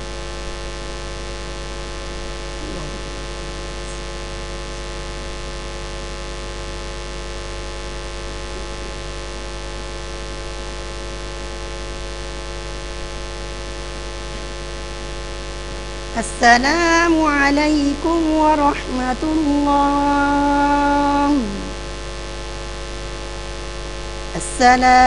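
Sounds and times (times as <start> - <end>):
electrical mains hum: 0.0 - 25.0
static hiss: 0.0 - 25.0.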